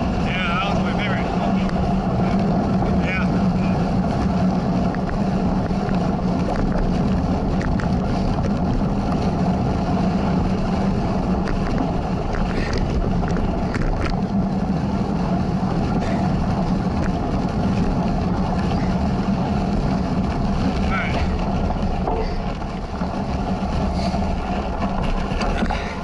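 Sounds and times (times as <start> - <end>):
bike rolling over dirt trail: 0.0 - 26.0
wind buffeting microphone: 0.0 - 26.0.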